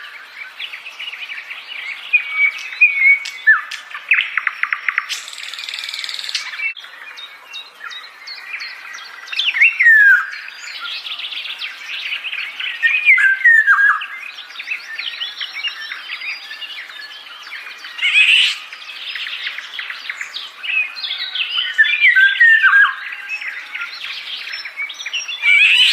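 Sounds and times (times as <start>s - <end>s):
birds chirping and calling: 0.0s - 25.9s.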